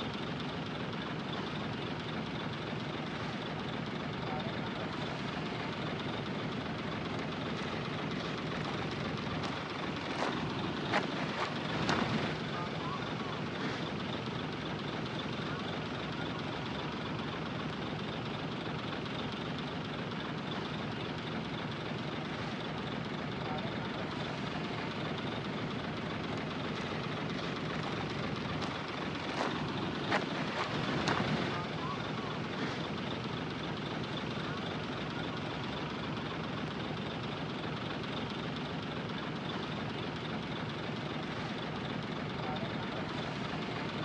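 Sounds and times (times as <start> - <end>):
diesel machinery engine running: 0.0 - 44.0.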